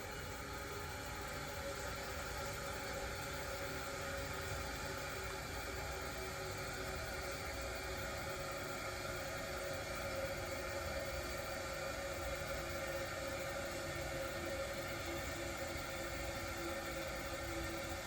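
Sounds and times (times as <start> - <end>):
faint steady whine: 0.0 - 18.0.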